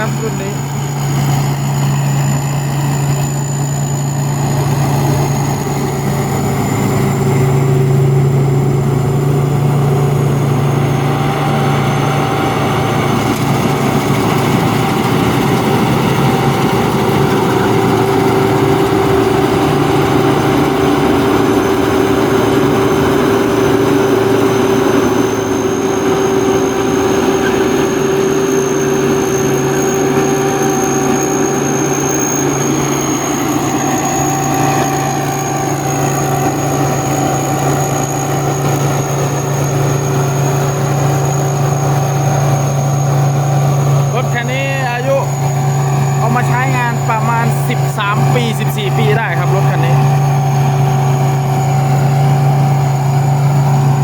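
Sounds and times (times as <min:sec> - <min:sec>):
diesel engine droning: 0:00.0 - 0:54.0
high turbo whistle: 0:00.0 - 0:54.0.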